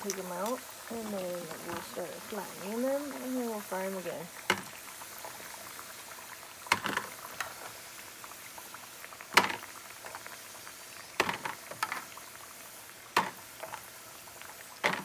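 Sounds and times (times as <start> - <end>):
plantain sizzling in hot oil: 0.0 - 15.0.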